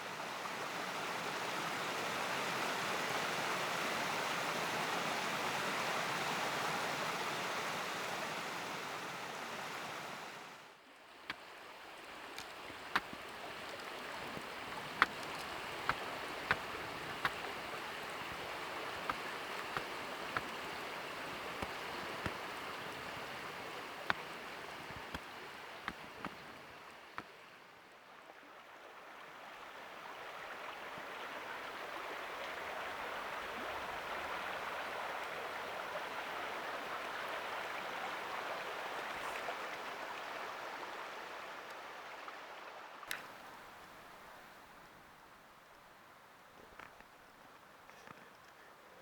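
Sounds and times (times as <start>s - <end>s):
running water rushing: 0.0s - 45.5s.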